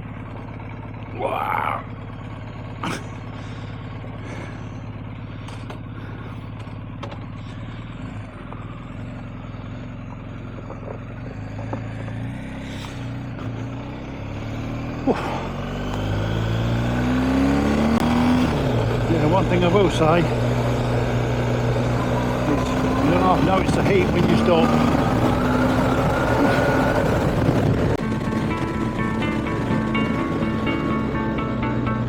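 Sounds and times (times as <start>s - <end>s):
motorcycle engine idling and revving: 0.0s - 32.0s.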